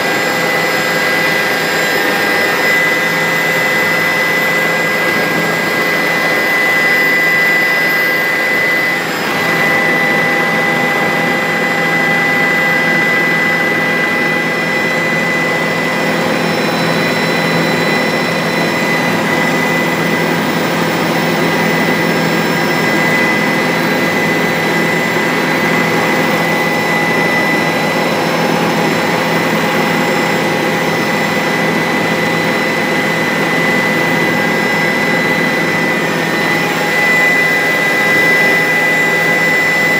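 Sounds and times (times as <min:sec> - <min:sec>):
helicopter turbine and rotor: 0:00.0 - 0:39.9.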